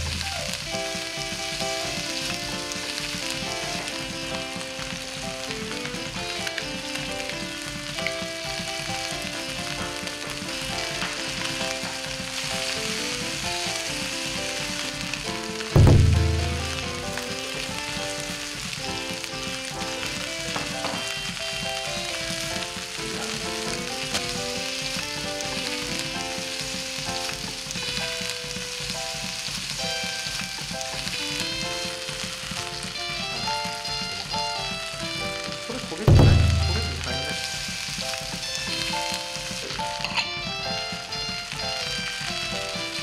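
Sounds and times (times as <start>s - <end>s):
food sizzling in a pan: 0.0s - 43.0s
light background music: 0.0s - 43.0s.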